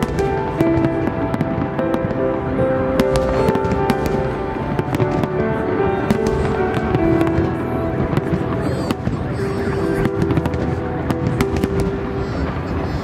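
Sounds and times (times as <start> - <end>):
fireworks bursting: 0.0 - 13.0
music with long held notes: 0.0 - 13.0.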